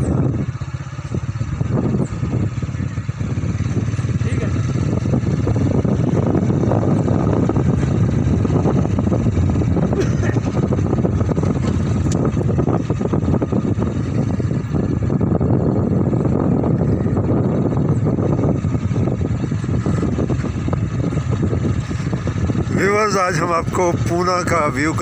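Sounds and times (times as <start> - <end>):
vehicle driving on dirt road: 0.0 - 25.0.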